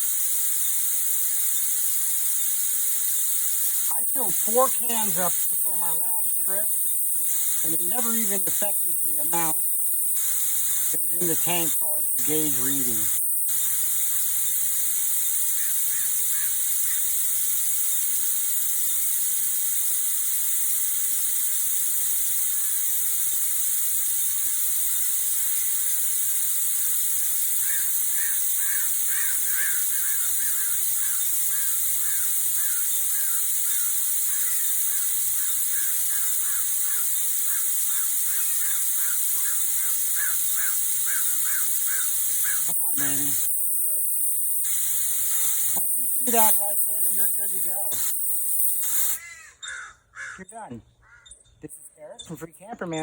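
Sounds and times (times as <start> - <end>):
hiss of gas escaping valve: 0.0 - 49.5
faint chirping calls: 0.7 - 53.0.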